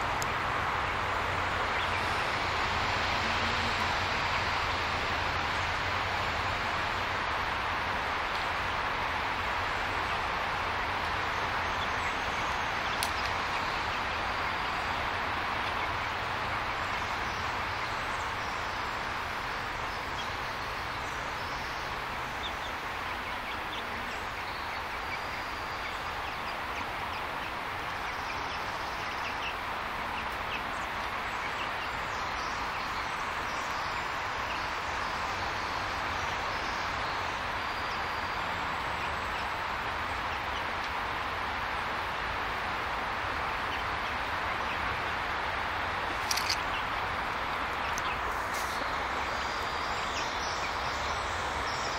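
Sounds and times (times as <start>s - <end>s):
steady background hiss: 0.0s - 51.9s.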